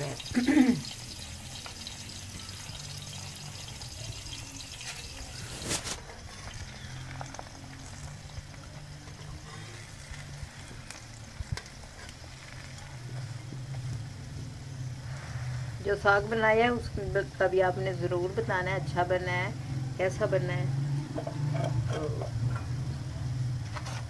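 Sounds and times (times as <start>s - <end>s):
flatbread sizzling on hot pan: 0.0s - 24.0s.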